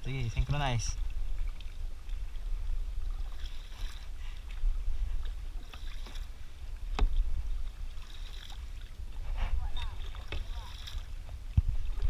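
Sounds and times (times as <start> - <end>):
paddles splashing in water: 0.0 - 12.0
wind rumble on microphone: 0.0 - 12.0.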